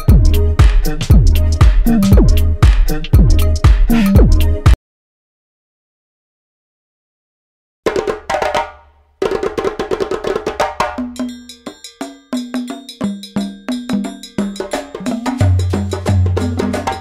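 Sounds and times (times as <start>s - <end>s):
percussion strikes: 0.0s - 4.8s, 7.9s - 17.0s.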